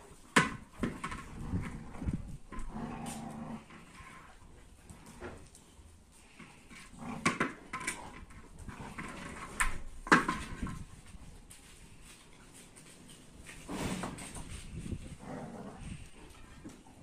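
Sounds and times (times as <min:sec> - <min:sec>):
dogs playing rough: 0:00.0 - 0:17.0.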